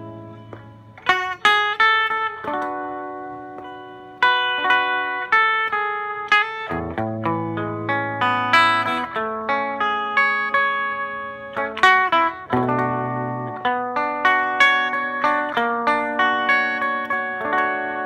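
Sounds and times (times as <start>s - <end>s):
electric guitar melody with delay: 0.0s - 18.0s.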